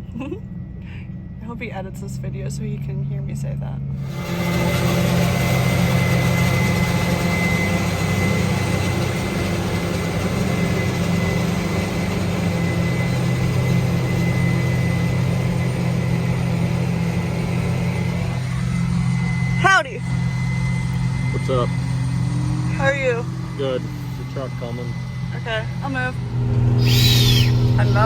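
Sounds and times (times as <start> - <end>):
diesel engine running: 0.0 - 28.0
thin high whine: 4.0 - 28.0.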